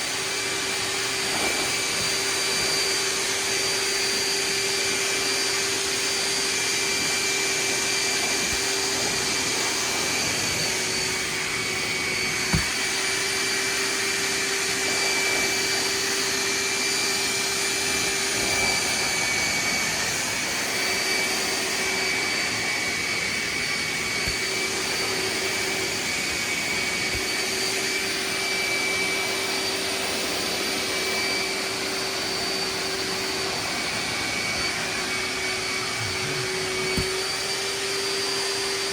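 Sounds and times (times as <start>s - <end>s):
wet vacuum sucking water: 0.0s - 38.9s.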